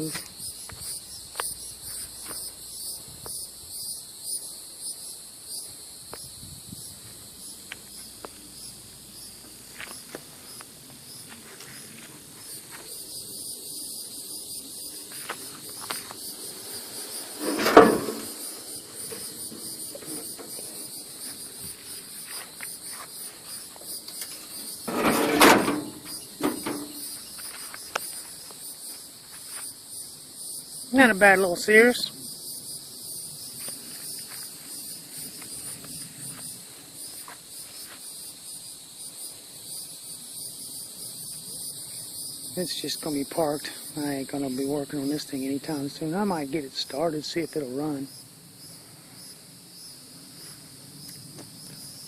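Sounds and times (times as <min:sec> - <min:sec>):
insects chirping: 0:00.0 - 0:52.0.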